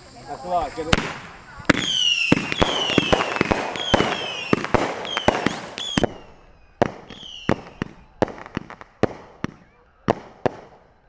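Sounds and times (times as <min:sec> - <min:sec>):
falling fireworks whistles: 0:00.0 - 0:11.0
fireworks bangs: 0:00.0 - 0:11.0
fireworks crackling hiss: 0:00.0 - 0:11.0.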